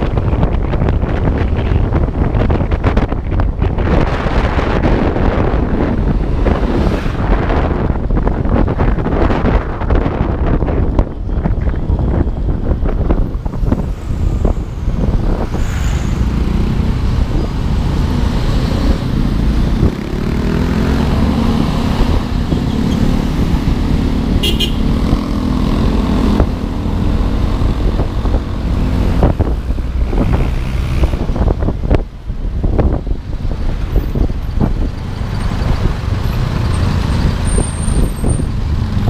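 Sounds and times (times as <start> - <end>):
passing road traffic: 0.0 - 39.0
wind buffeting microphone: 0.0 - 39.0.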